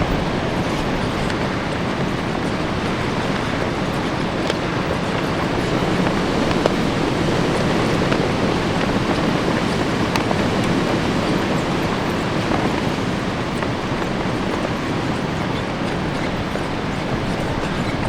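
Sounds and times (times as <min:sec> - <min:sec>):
flags flapping: 0:00.0 - 0:18.0
heavy wind rushing: 0:00.0 - 0:18.0.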